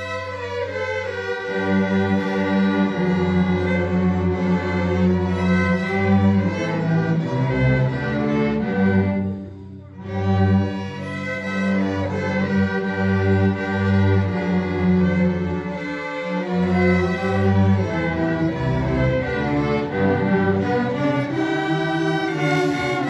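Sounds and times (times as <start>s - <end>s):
cello ensemble playing: 0.0s - 23.0s.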